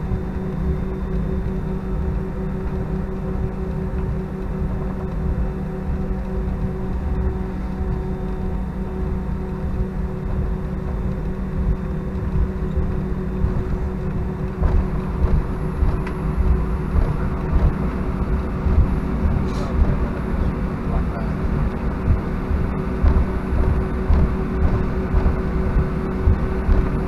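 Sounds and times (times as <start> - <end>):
jet engines droning: 0.0 - 27.0
steady low hum: 0.0 - 27.0.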